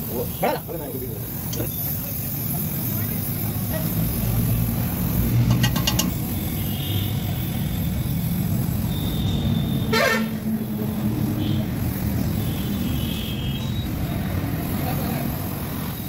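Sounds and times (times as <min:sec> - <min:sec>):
torch flame roaring: 0:00.0 - 0:13.0, 0:13.8 - 0:16.0.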